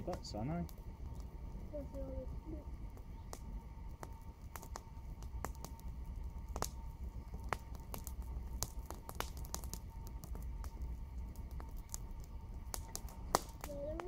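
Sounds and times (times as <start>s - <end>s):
fire crackling and popping: 0.0s - 14.0s
low rumble: 0.0s - 14.0s.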